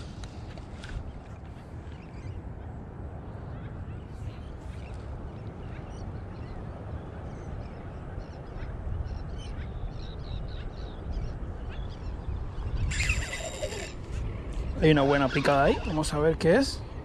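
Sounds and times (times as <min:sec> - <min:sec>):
birds chirping: 0:00.0 - 0:17.0
wind buffeting microphone: 0:00.0 - 0:17.0.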